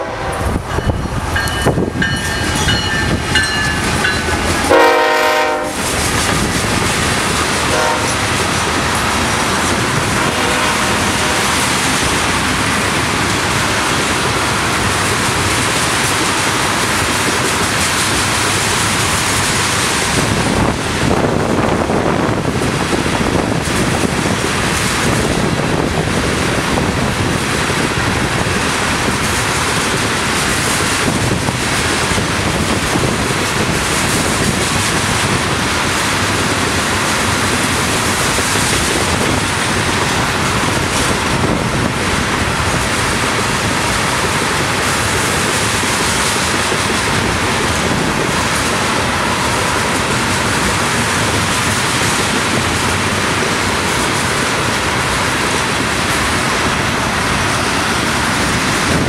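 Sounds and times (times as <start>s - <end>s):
freight train wheels rolling on rails: 0.0s - 59.0s
wind on microphone: 0.0s - 59.0s.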